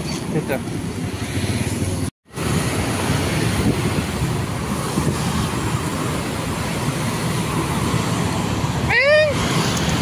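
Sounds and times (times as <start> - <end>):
motorbikes and cars passing: 0.0 - 10.0.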